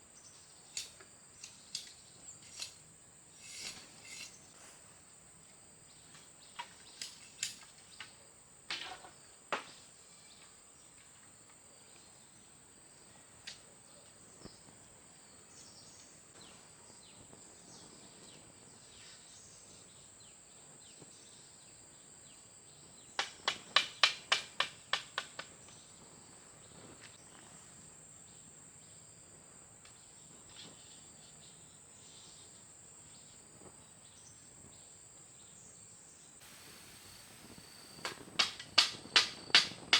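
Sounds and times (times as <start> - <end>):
crickets droning: 0.0 - 39.9.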